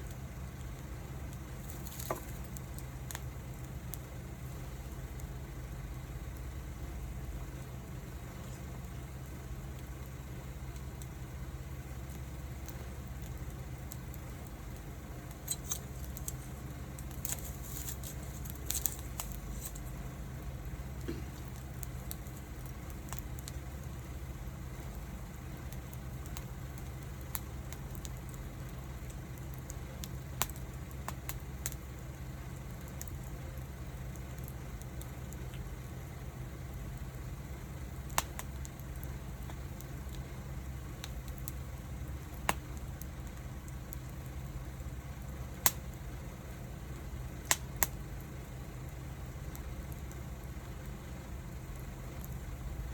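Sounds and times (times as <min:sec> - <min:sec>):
steady low hum: 0:00.0 - 0:52.9
wood fire crackling and popping: 0:00.0 - 0:52.9.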